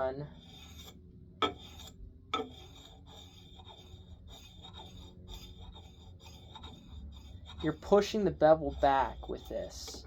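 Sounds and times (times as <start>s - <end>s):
sharpening stone rubbing on axe edge: 0.0s - 10.0s.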